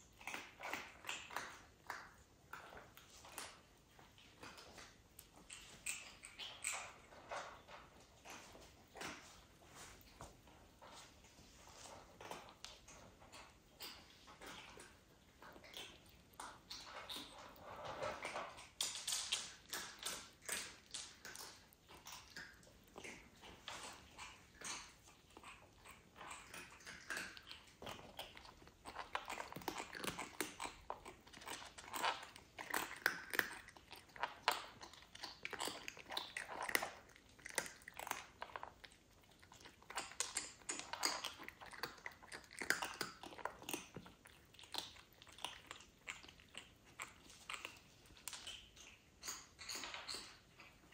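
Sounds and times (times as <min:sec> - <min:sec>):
kitten licking its fur: 0:00.0 - 0:50.9.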